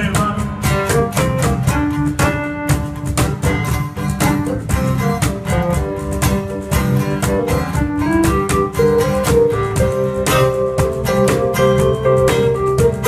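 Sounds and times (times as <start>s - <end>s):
hand percussion beat: 0.0s - 13.0s
keyboard melody: 0.0s - 13.0s
strummed acoustic guitar: 0.0s - 13.0s.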